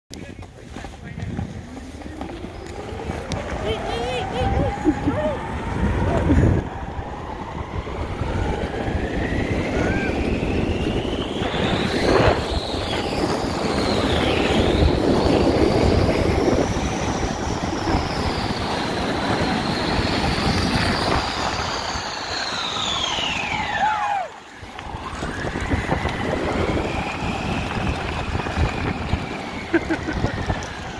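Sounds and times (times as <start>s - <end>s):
snow tube sliding on snow: 0.2s - 30.9s.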